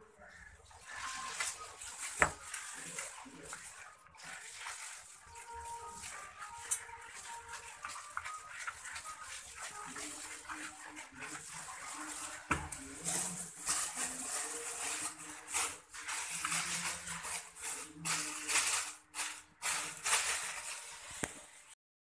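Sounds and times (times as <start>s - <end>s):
plastic bag crinkling: 0.3s - 21.8s.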